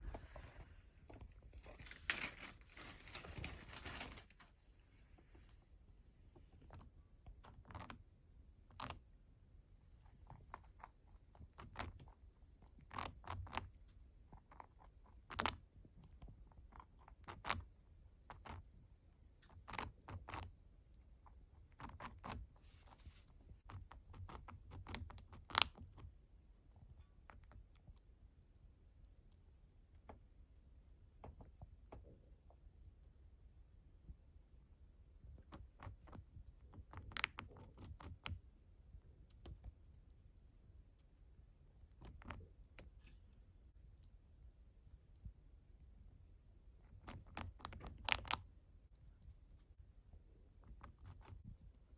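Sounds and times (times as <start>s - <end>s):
rabbit chewing crunches: 0.0s - 4.6s, 6.3s - 51.9s.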